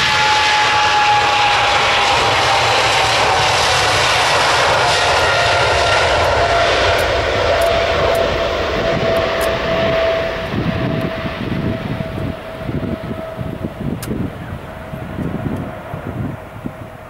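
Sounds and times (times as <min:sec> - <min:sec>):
jet engines roaring and whining: 0:00.0 - 0:17.0.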